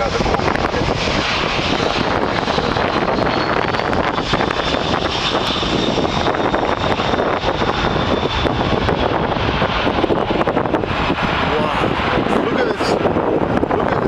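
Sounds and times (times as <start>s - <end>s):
jet engines rushing with whine: 0.0s - 14.0s.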